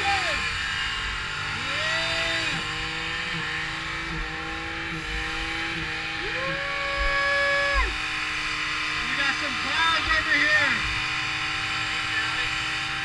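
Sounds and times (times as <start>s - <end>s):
car engine revving: 0.0s - 13.0s
tires spinning: 0.0s - 13.0s.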